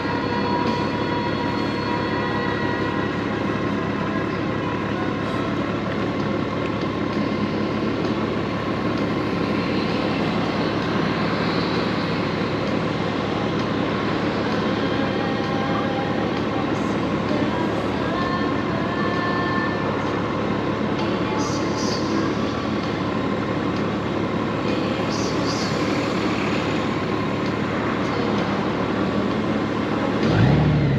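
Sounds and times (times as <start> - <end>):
motorcycle engine humming: 0.0 - 30.9.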